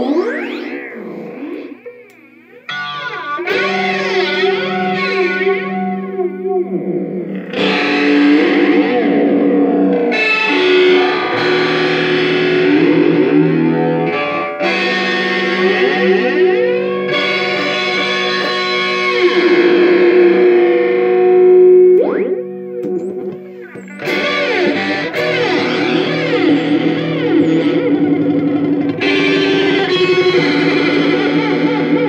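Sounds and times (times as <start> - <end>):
electric guitar chords with flanger: 0.0 - 32.0.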